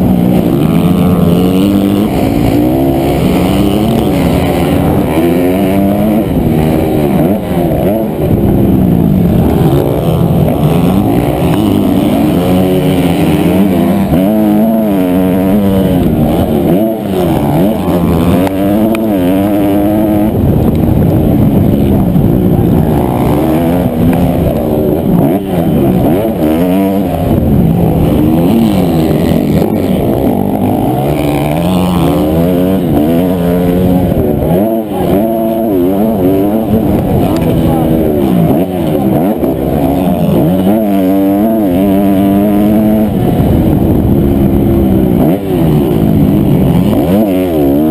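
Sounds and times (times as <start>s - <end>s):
motocross bike engine racing: 0.0s - 47.9s.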